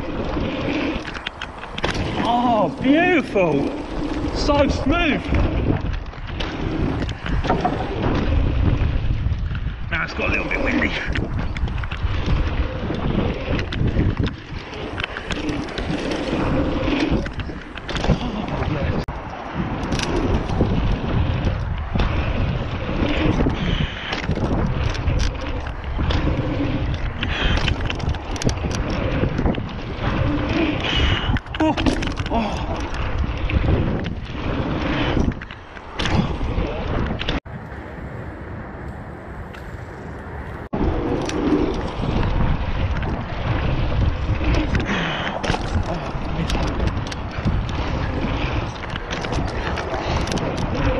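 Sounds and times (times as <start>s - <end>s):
bike knocking and rattling: 0.0s - 37.9s, 38.9s - 50.9s
bike tyres on dirt: 0.0s - 50.9s
wind buffeting microphone: 0.0s - 50.9s.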